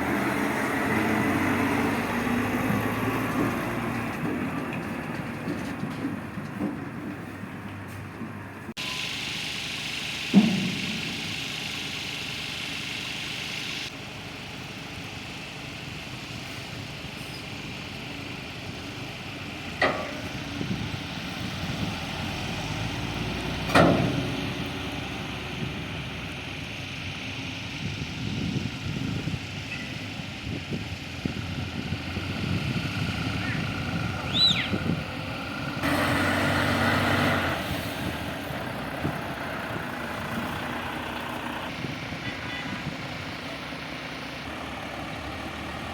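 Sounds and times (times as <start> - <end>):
heavy machinery engine running: 0.0 - 45.9.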